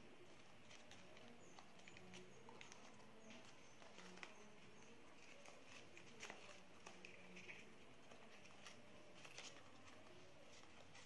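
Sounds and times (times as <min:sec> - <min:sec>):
paper crinkling and rustling: 0:00.5 - 0:11.0.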